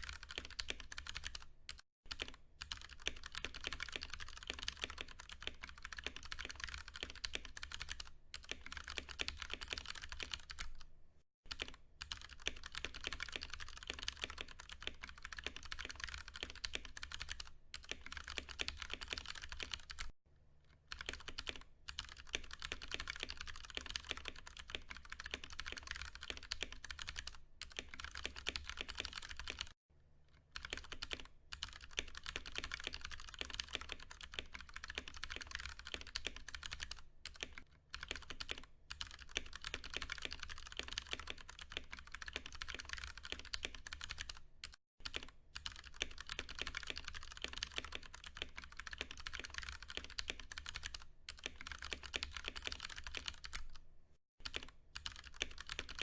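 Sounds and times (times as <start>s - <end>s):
fast typing on mechanical keyboard: 0.0s - 10.9s, 11.5s - 20.2s, 20.9s - 29.8s, 30.6s - 53.8s, 54.4s - 56.0s.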